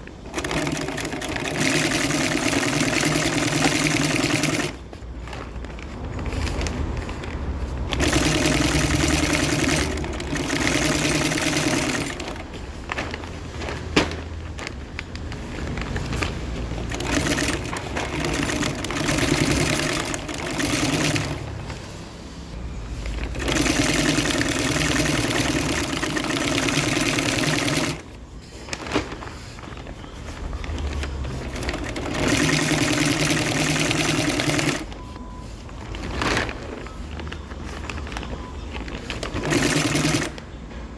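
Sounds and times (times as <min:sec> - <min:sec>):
sewing machine stitching canvas: 0:00.0 - 0:22.0, 0:22.9 - 0:40.6.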